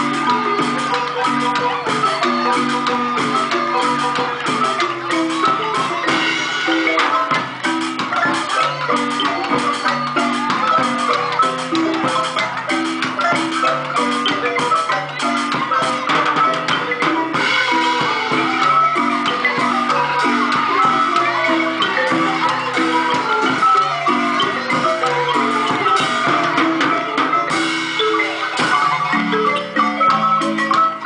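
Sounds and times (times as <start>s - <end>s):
marimba music: 0.0s - 31.0s.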